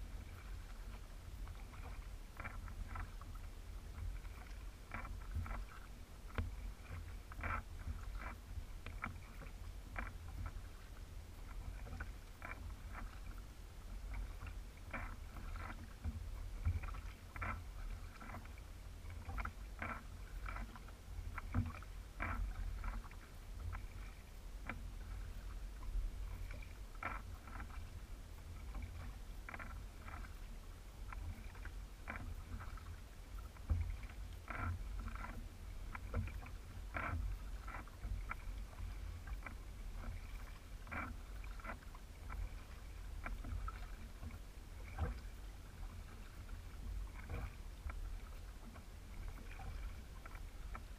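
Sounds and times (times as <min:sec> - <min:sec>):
low steady rumble: 0:00.0 - 0:50.9
paddle splashing water: 0:00.0 - 0:50.9.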